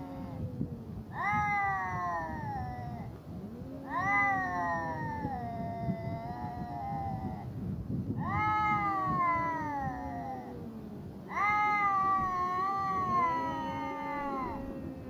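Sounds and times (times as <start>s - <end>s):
cats yowling: 0.0s - 7.5s, 8.2s - 15.0s.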